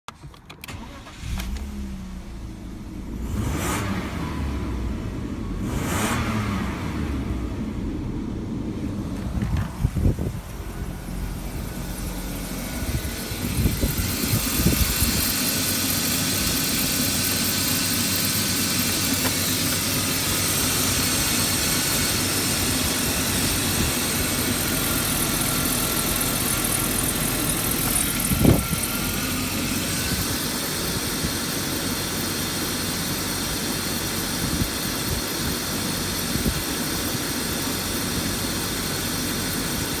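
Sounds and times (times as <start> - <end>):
car engine idling: 0.6 - 40.0.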